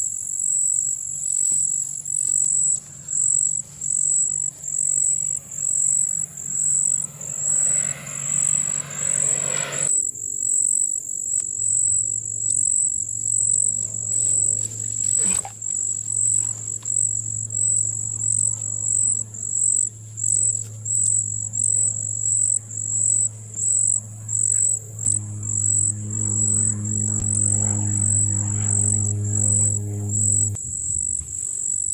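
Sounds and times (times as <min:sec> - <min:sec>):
insect chirping: 0:00.0 - 0:30.6
low steady hum: 0:02.8 - 0:09.9, 0:11.8 - 0:30.6.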